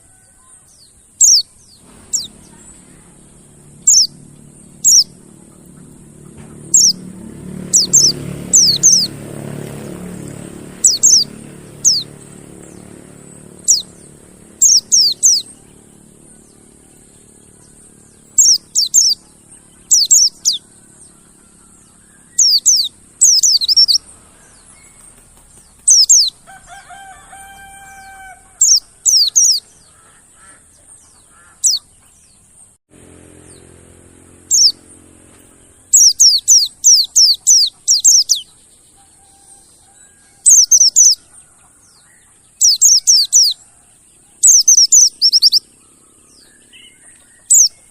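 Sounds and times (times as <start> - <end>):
bird high downward chirps: 0.0 - 47.9
lower steady bird call: 0.0 - 47.9.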